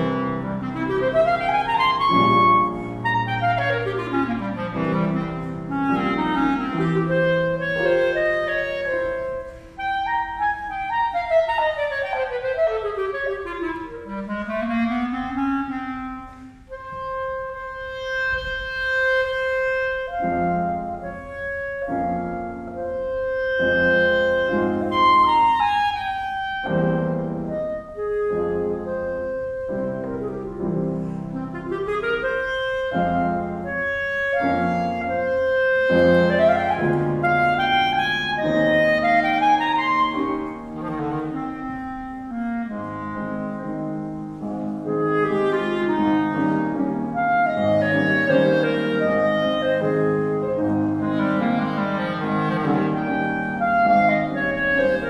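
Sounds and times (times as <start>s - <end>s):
clarinet melody: 0.0s - 55.0s
piano chords: 0.0s - 55.0s.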